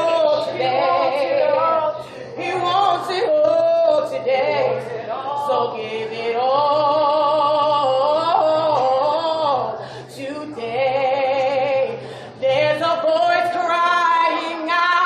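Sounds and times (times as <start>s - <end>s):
women singing a cappella: 0.0s - 15.0s.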